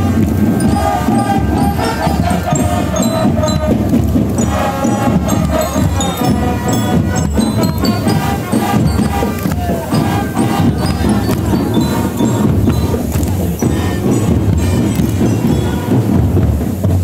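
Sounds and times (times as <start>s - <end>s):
brass horns holding chords: 0.0s - 16.6s
marching drums: 0.0s - 17.0s.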